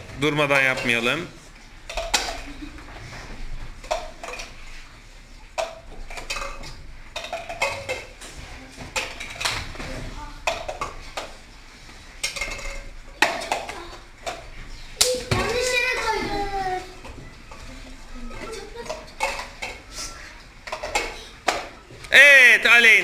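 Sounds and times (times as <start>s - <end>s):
plastic cups clacking on wood: 0.3s - 2.7s, 3.7s - 4.9s, 5.5s - 9.8s, 10.4s - 11.5s, 12.1s - 21.8s.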